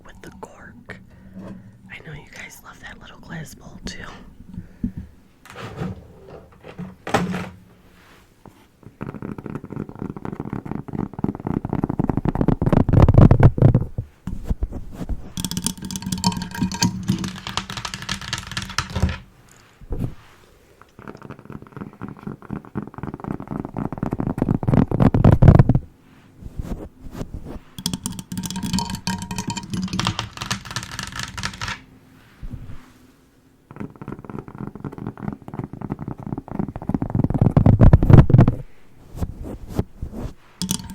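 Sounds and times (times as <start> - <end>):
cork and glass bowl crackling: 0.0 - 5.4, 7.8 - 25.8, 26.4 - 31.9, 33.7 - 40.9.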